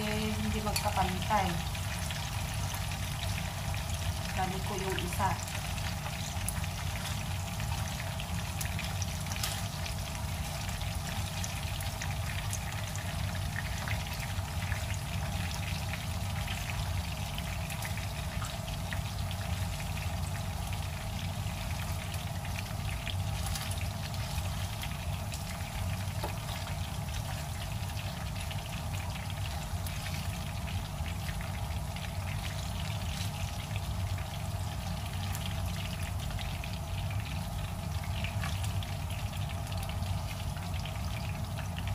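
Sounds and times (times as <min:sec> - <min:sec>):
fish frying in oil: 0:00.0 - 0:41.9
low steady hum: 0:00.0 - 0:41.9.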